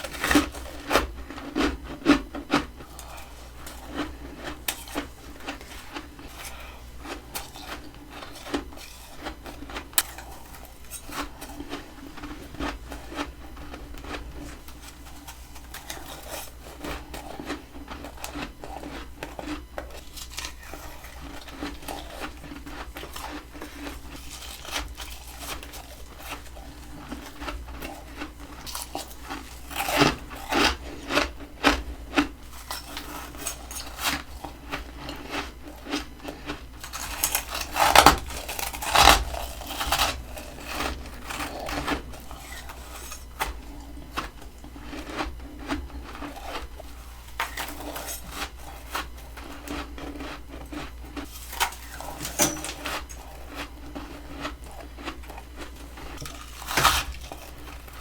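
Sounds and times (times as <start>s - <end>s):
biting and chewing frost: 0.0s - 58.0s.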